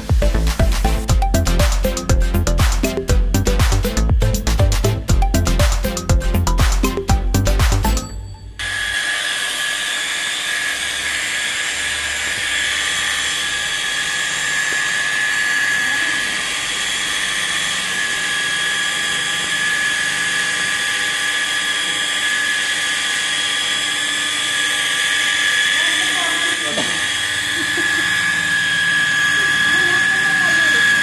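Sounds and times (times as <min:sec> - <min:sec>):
electric polisher motor whining: 0:00.0 - 0:31.0.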